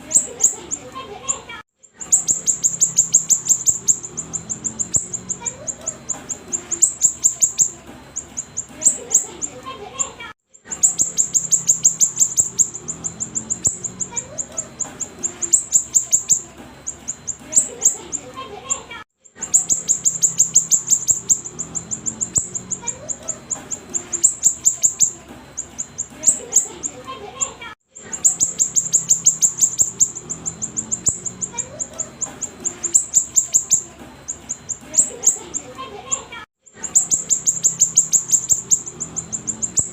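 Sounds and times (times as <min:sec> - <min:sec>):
bird high descending chirps: 0:00.0 - 0:18.8, 0:19.4 - 0:27.1, 0:28.0 - 0:39.9.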